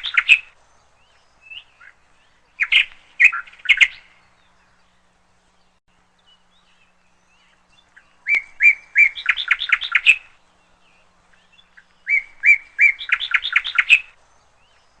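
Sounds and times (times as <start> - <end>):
bird singing chirps: 0.0 - 15.0.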